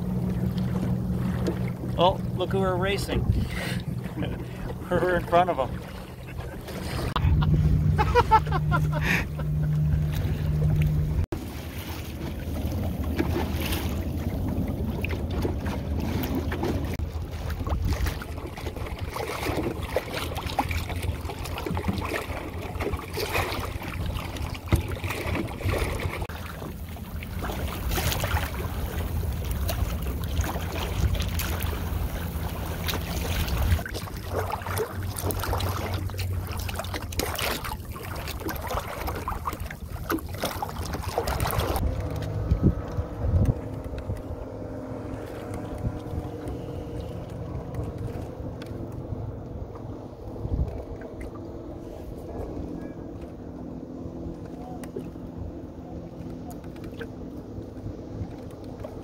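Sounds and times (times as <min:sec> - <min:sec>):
water lapping against hull: 0:00.0 - 0:59.0
wind buffeting microphone: 0:02.6 - 0:04.9, 0:05.7 - 0:11.3, 0:12.2 - 0:36.2, 0:38.7 - 0:54.3.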